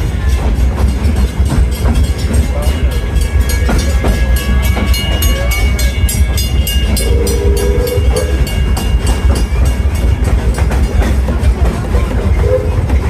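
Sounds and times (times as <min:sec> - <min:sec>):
train cars clattering: 0:00.0 - 0:13.0.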